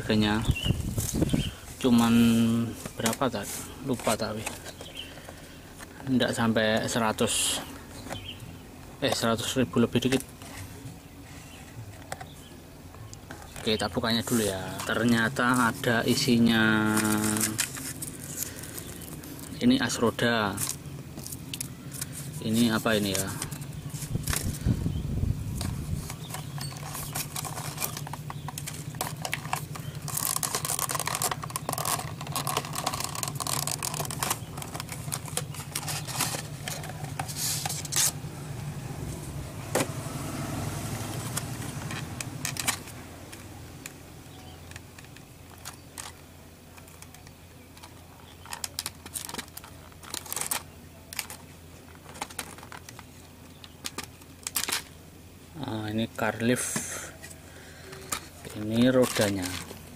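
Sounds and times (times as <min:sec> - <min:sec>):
plastic packaging crackling: 0:00.0 - 0:08.4, 0:13.4 - 0:24.8, 0:25.4 - 0:38.2, 0:41.1 - 0:55.0, 0:55.8 - 0:59.9
low steady hum: 0:00.0 - 0:59.9.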